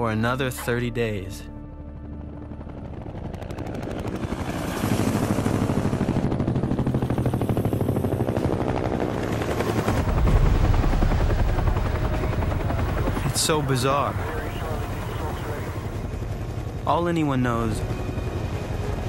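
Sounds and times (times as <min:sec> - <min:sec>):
helicopter rotor chopping: 0:01.9 - 0:19.0.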